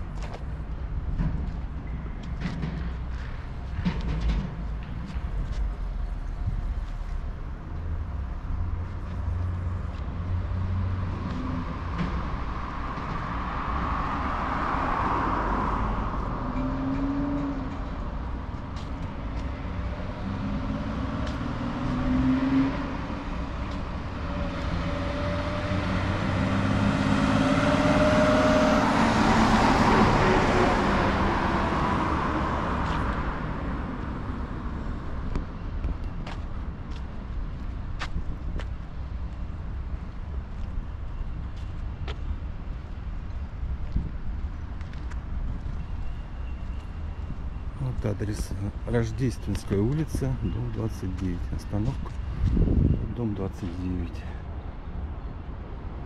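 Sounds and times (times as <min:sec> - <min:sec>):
traffic rumble: 0:00.0 - 0:56.0
vehicles driving past: 0:00.0 - 0:56.0.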